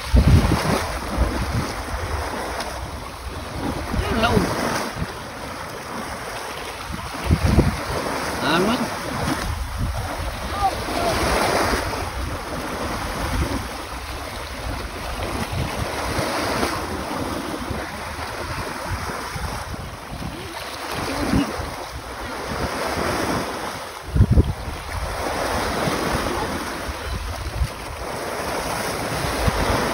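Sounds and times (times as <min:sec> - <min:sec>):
sea waves breaking: 0:00.0 - 0:29.9
wind buffeting microphone: 0:00.0 - 0:29.9.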